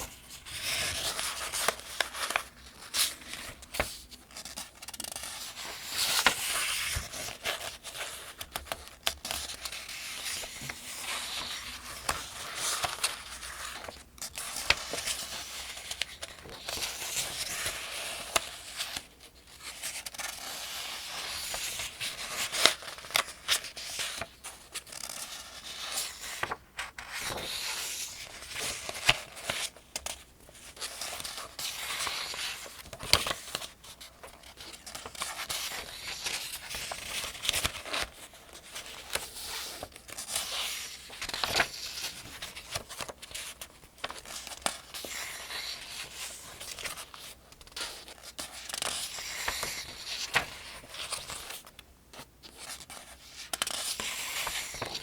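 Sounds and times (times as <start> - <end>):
paper pages turning: 0.0 - 55.0.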